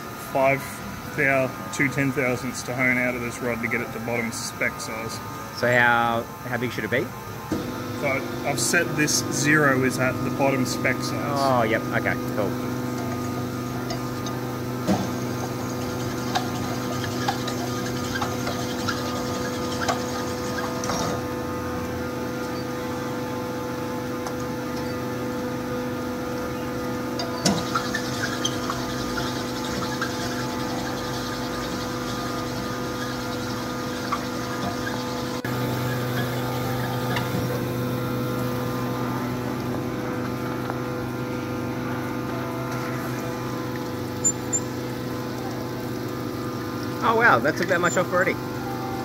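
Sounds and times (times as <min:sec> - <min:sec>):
honing machine motor hum: 0:00.0 - 0:49.0.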